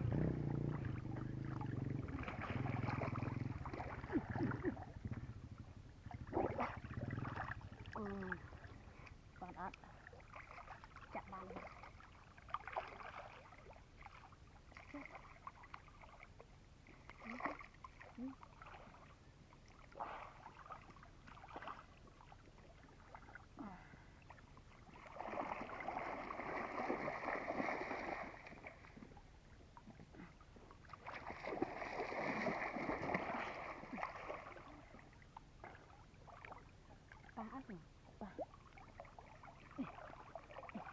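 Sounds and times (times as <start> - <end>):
water splashing and sloshing: 0.0 - 40.9.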